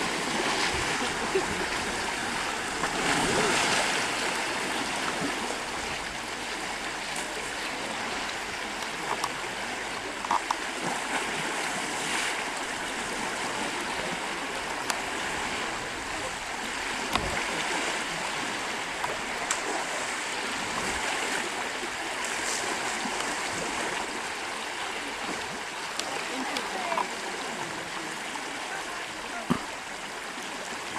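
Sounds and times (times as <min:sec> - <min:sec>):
running water rushing: 0:00.0 - 0:30.9.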